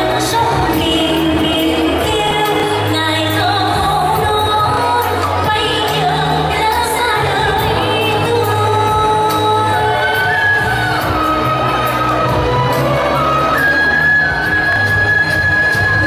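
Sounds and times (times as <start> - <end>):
amplified backing music: 0.0 - 16.0
woman singing into microphone: 0.0 - 16.0.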